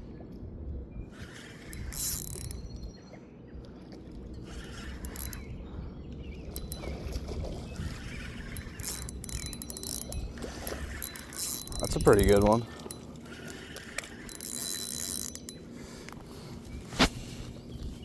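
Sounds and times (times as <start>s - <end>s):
fishing reel whirring: 1.1s - 3.0s, 4.1s - 16.9s.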